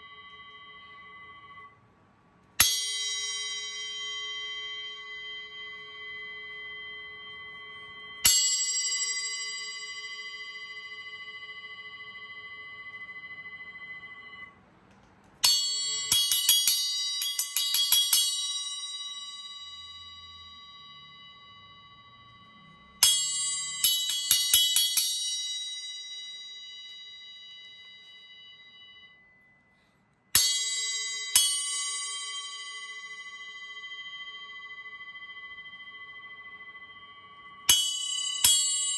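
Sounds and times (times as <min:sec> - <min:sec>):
bell cymbal struck with drumstick: 0:00.0 - 0:01.7, 0:02.6 - 0:14.5, 0:15.4 - 0:38.9.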